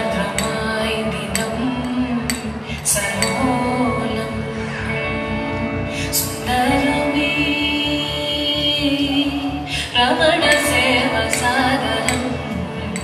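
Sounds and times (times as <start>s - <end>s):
music with steady beat: 0.0s - 13.0s.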